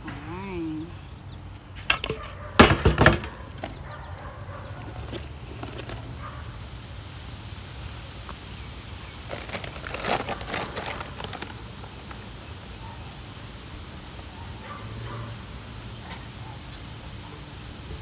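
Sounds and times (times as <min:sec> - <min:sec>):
soil rustling and scraping: 0:00.0 - 0:15.2.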